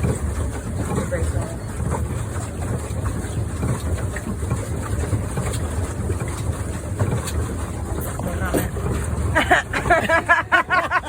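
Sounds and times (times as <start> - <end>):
pedal boat rumbling: 0.0 - 11.0.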